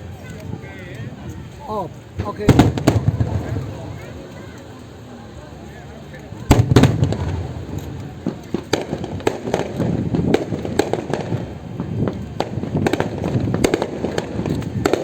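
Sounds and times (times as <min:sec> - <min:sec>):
fireworks bangs and crackles: 0:00.0 - 0:05.2, 0:05.8 - 0:15.0.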